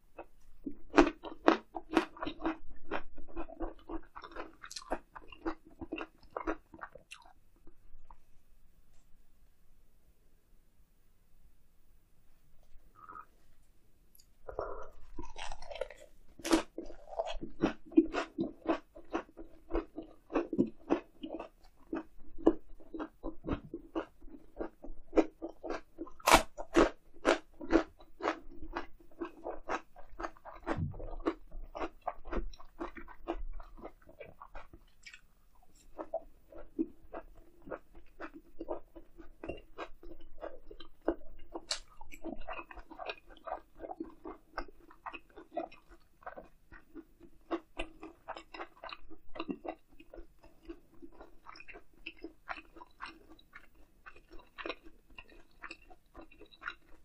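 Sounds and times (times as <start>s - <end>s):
chewing and crunching: 0.2s - 8.2s, 14.2s - 57.0s.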